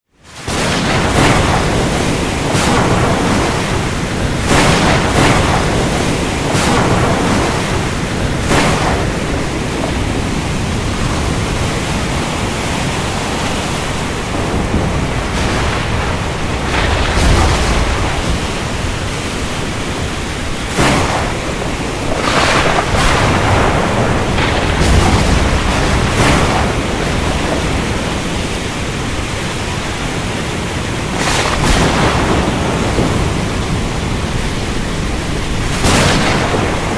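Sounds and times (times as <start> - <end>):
wind: 0.0 - 36.9
waves surging: 0.1 - 36.9
thunder rumbling: 0.3 - 36.9.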